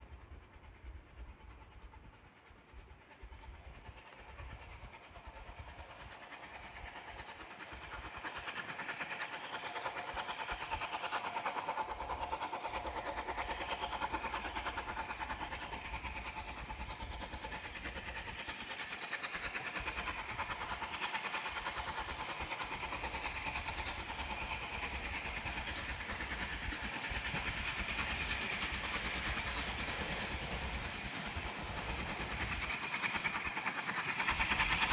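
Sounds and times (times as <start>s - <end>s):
steam train running by: 0.0s - 34.9s.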